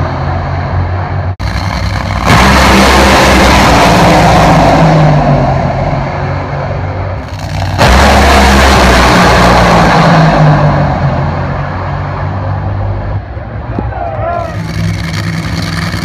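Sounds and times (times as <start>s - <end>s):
drag racing cars engines roaring: 0.0s - 16.0s.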